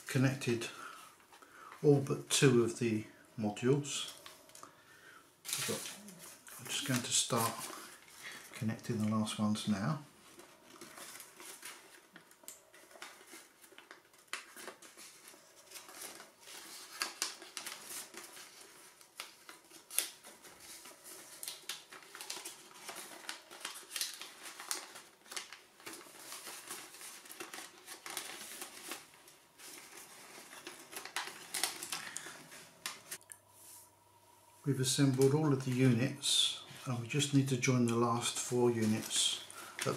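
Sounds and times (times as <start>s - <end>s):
paper rustling and crinkling: 5.4s - 33.8s, 34.7s - 39.9s.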